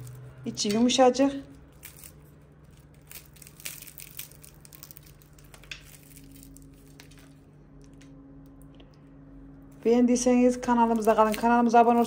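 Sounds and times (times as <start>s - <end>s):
flaky pastry crackling as torn: 0.0s - 8.7s, 10.6s - 12.0s.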